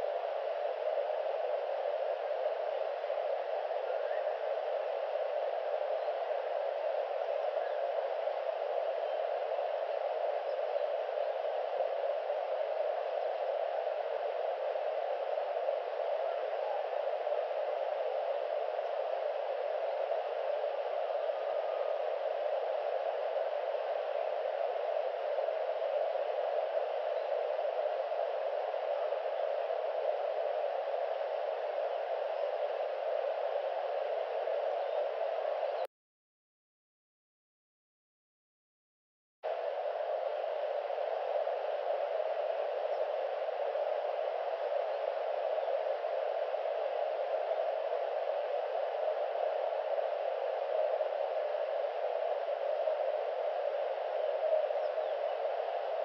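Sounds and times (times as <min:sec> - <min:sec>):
steady background hiss: 0:00.0 - 0:35.9, 0:39.5 - 0:56.0.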